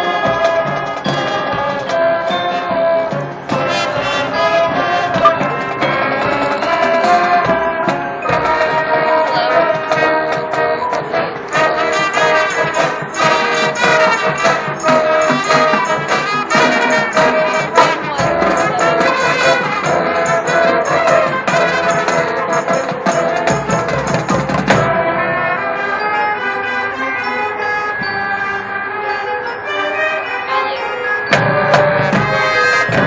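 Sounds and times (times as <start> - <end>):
drumline percussion: 0.0 - 26.0, 31.2 - 33.0
marching band brass: 0.0 - 33.0.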